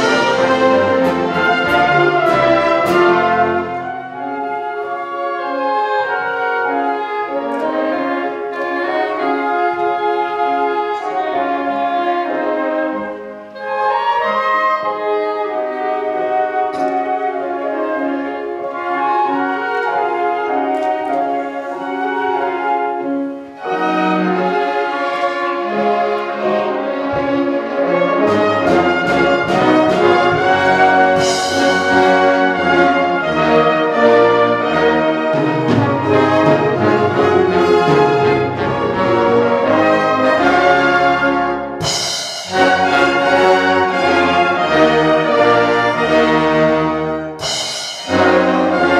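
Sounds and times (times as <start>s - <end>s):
orchestra playing christmas music: 0.0s - 48.9s.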